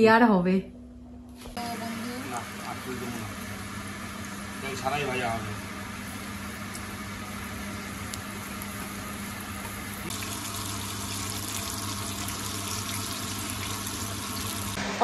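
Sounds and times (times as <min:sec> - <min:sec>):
oil sizzling in a frying pan: 0:01.6 - 0:15.0.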